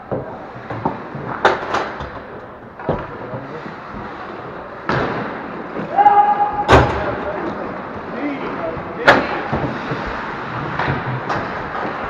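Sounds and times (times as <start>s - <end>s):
arena background noise: 0.0s - 12.0s
hockey sticks and puck clacking: 0.0s - 12.0s.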